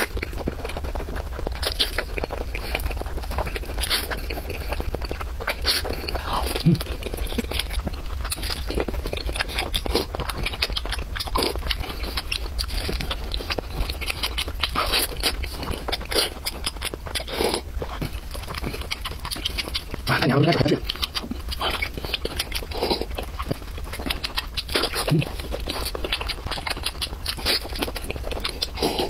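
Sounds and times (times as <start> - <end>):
mouth smacking and clicking: 0.0 - 29.0
person chewing food: 0.0 - 29.0
steady low hum: 0.0 - 29.0.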